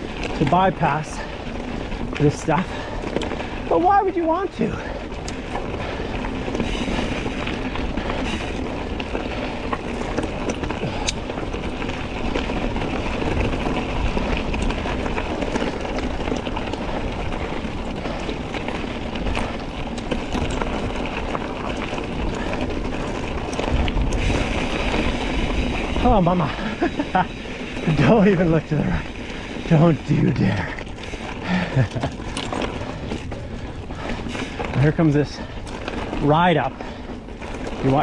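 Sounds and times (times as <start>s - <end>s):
bike rattling clicks and knocks: 0.0s - 38.0s
bike tyres rumbling over rock: 0.0s - 38.0s.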